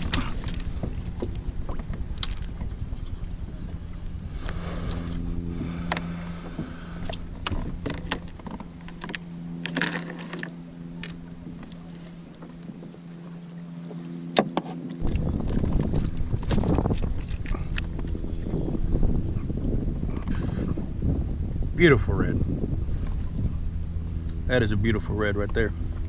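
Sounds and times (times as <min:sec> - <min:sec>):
waves lapping against kayak hull: 0:00.0 - 0:24.5
steady low hum: 0:00.0 - 0:26.0
wind rumble on microphone: 0:00.0 - 0:26.0.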